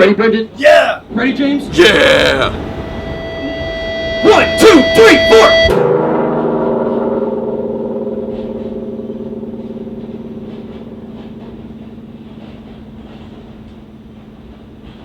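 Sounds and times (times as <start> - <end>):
low rumble: 1.1 - 15.0
distorted electric guitar chord: 2.0 - 15.0.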